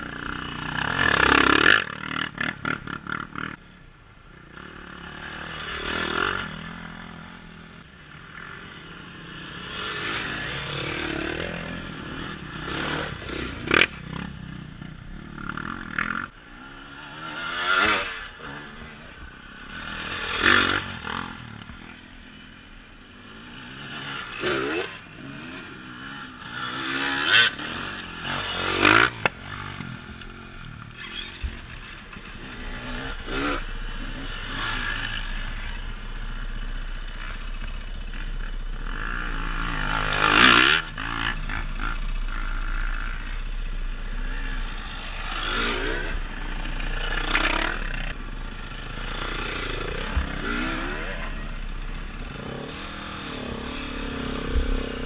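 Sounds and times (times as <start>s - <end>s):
dirt bikes revving past: 0.0s - 55.0s.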